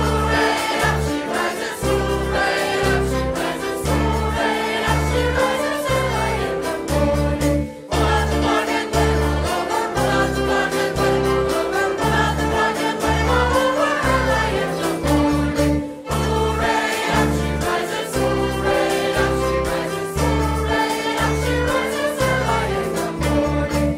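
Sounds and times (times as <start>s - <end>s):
live band music: 0.0s - 23.9s.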